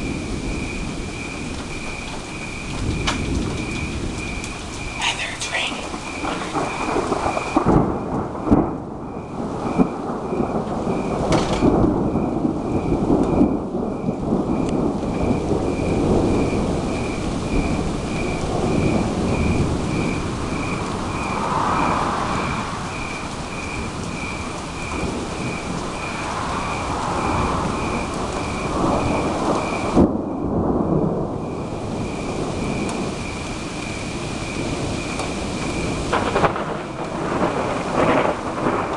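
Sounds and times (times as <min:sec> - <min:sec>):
steady rain: 0:00.0 - 0:38.9
thunder cracks: 0:00.0 - 0:38.9
thunder rumbling: 0:00.0 - 0:38.9.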